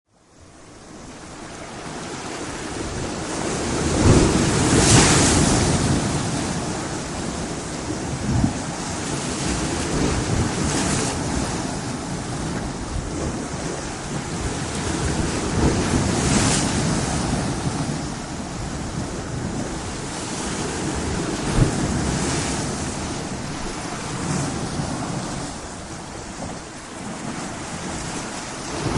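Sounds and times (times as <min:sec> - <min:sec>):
heavy rain and wind: 0:00.2 - 0:28.9.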